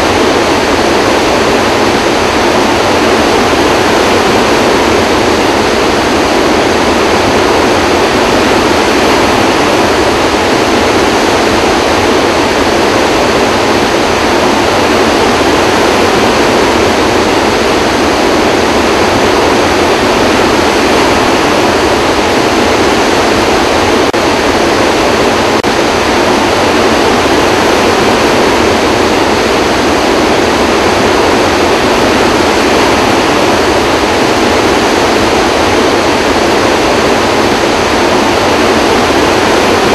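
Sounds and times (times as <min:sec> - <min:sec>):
water rushing from spillway: 0:00.0 - 0:39.9.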